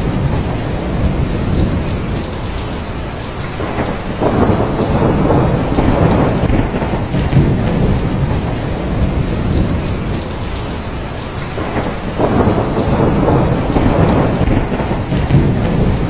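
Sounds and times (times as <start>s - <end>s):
heavy rain: 0.0s - 16.0s
thunder rumbling: 0.0s - 16.0s.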